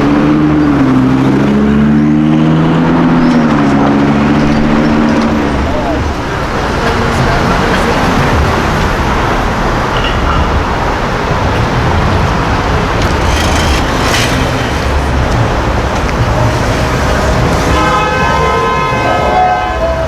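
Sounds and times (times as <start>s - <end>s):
car engines and tyres rumbling: 0.0s - 20.0s
car horn: 2.7s - 20.0s.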